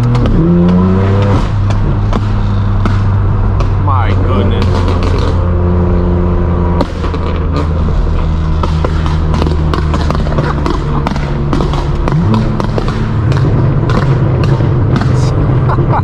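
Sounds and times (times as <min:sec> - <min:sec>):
car engine exhaust note: 0:00.0 - 0:16.0
exhaust pops and crackles: 0:00.0 - 0:16.0.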